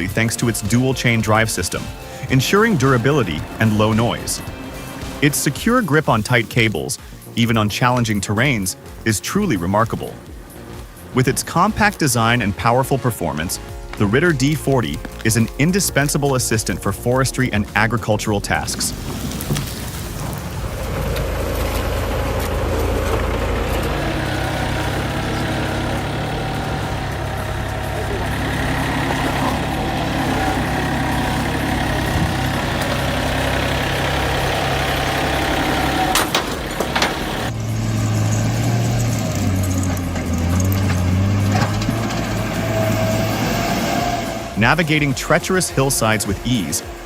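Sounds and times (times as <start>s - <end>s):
heavy machinery engine running: 0.0s - 47.0s.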